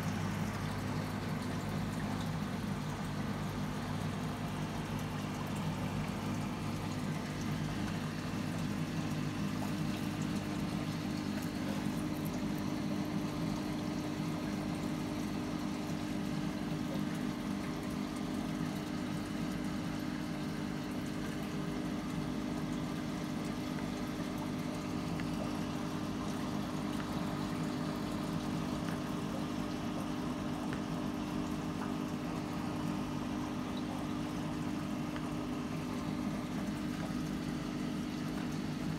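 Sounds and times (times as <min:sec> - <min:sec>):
aquarium filter pump humming: 0:00.0 - 0:38.9
moving water: 0:00.0 - 0:38.9.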